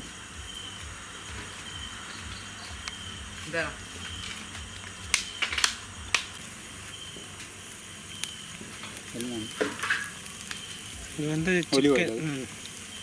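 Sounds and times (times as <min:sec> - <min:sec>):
chicken sizzling on a grill: 0:00.0 - 0:13.0
sharp crackles: 0:00.0 - 0:13.0.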